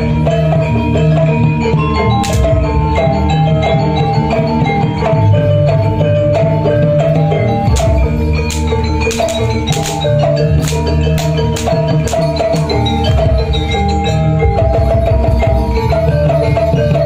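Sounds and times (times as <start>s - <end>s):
metallophones playing melody: 0.0s - 17.0s.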